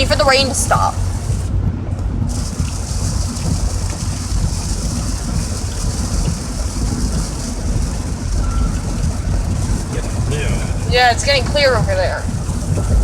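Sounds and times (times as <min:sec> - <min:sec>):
heavy rain on car roof: 0:00.0 - 0:13.0
low constant rumble: 0:00.0 - 0:13.0.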